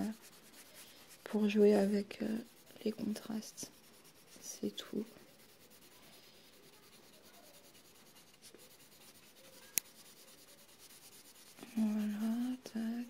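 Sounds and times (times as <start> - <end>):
pencil shading on paper: 0.0 - 12.7.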